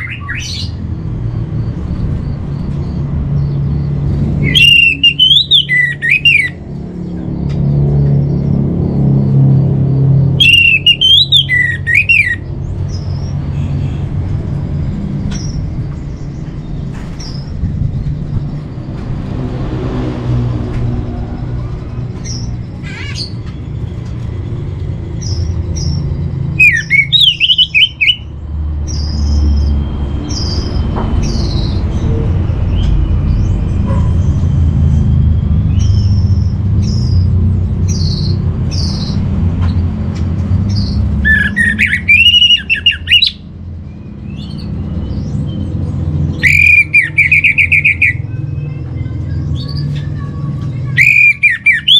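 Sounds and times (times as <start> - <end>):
high bird chirps: 0.0 - 19.1, 22.1 - 39.8, 40.7 - 51.9.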